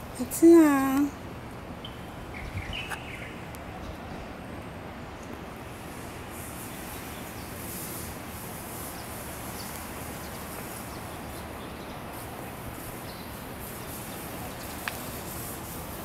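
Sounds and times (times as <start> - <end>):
outdoor hiss and rumble: 0.0 - 16.0.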